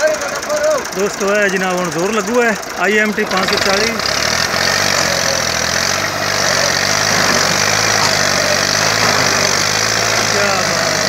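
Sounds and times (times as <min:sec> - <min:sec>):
tractor diesel engine straining: 0:00.0 - 0:11.0.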